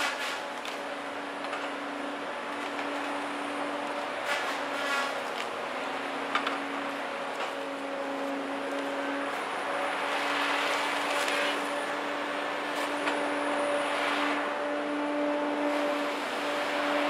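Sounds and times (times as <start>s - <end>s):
heavy machine running: 0.0s - 17.0s
steady machine whine: 0.4s - 17.0s.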